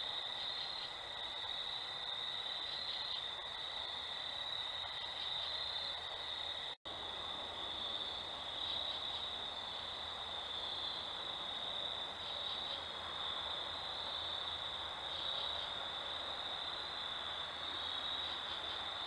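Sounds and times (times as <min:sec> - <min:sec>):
background hiss: 0:00.0 - 0:19.0
insects trilling: 0:00.0 - 0:19.0.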